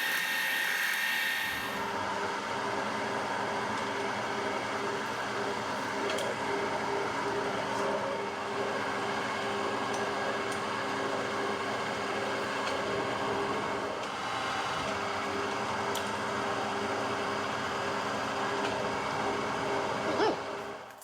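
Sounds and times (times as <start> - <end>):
milling machine humming: 0.0 - 20.9.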